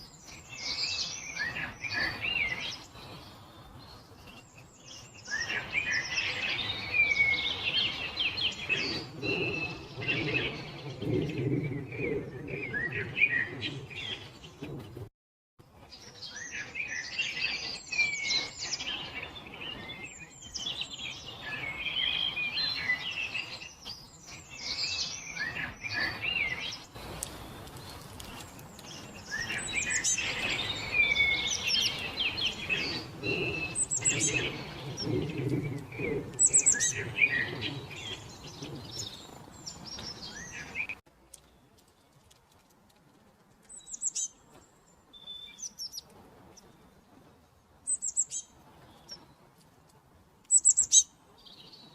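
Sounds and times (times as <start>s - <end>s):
songbirds singing and chirping: 0.0s - 51.9s.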